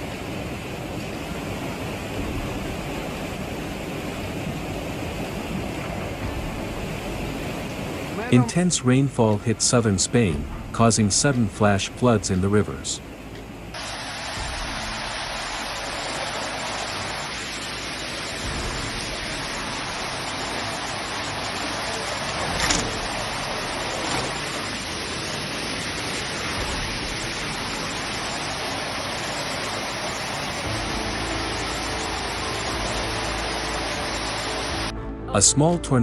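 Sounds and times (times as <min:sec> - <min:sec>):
rushing floodwater roar: 0:00.0 - 0:36.0.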